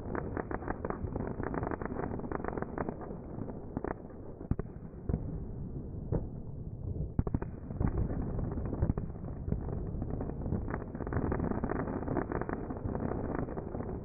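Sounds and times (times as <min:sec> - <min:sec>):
fireworks rumble: 0:00.0 - 0:14.0.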